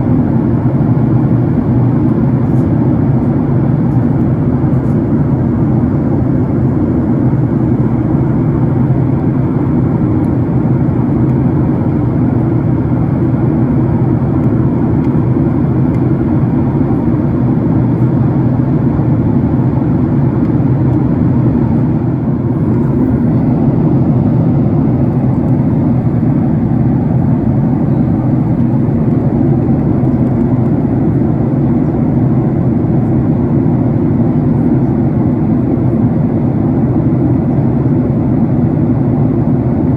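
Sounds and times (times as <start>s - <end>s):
jet airliner cabin noise: 0.0s - 39.9s.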